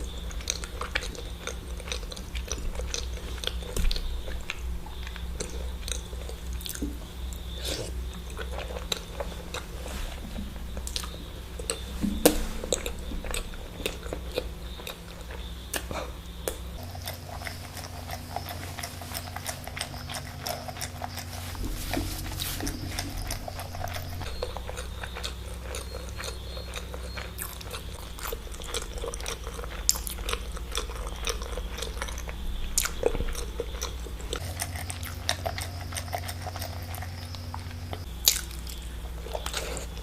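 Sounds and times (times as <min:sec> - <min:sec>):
chewing and biting eggs: 0:00.0 - 0:40.0
low steady hum: 0:00.0 - 0:40.0.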